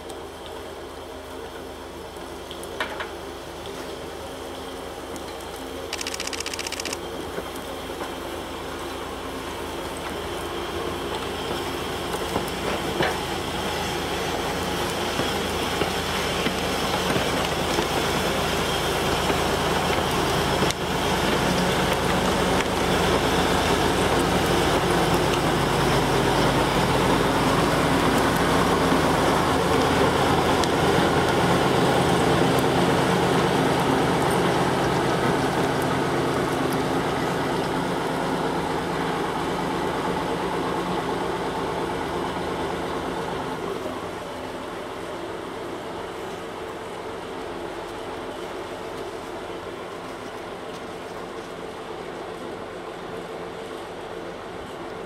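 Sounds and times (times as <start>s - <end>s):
diesel locomotive engine: 0.0s - 55.0s
train rolling noise: 0.0s - 55.0s.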